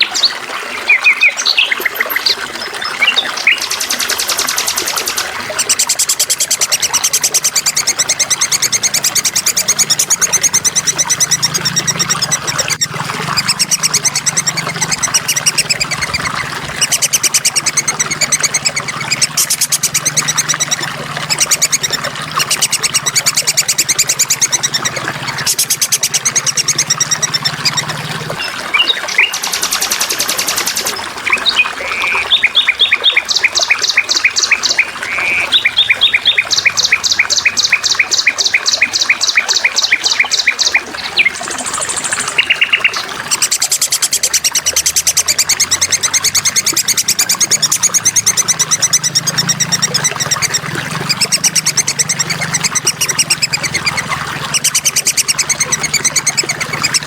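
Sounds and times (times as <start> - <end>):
songbirds chirping: 0.0 - 50.5
high warbling bird trill: 0.0 - 57.0
water trickling: 0.0 - 57.0.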